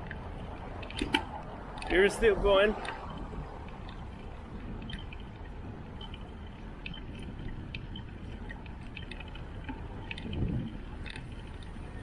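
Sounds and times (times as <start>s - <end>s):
bicycle riding rumble: 0.0s - 12.0s.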